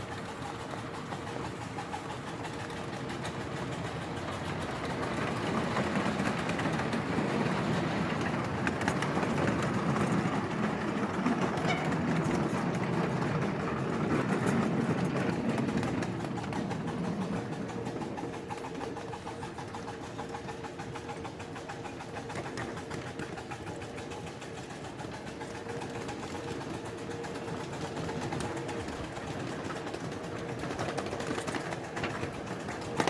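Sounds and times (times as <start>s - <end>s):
miniature train rattling past: 0.0s - 33.0s.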